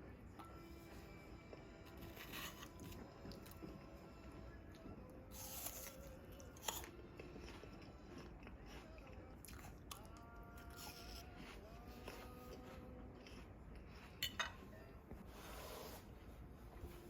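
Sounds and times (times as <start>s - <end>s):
crunching and chewing food: 0.4s - 15.6s.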